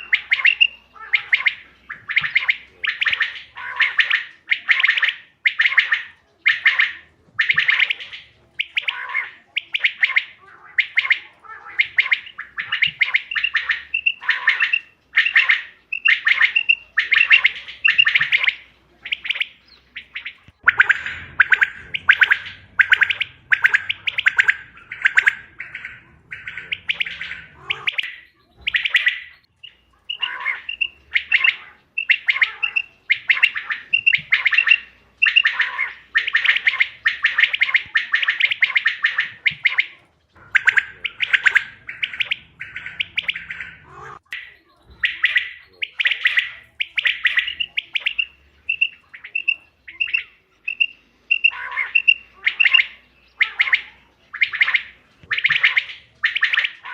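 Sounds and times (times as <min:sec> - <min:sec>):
quail calls trilling: 0:00.0 - 0:56.9.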